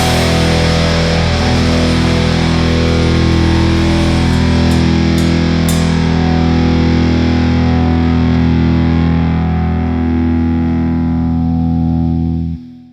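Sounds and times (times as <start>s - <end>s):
distorted electric guitar chord: 0.0s - 12.9s.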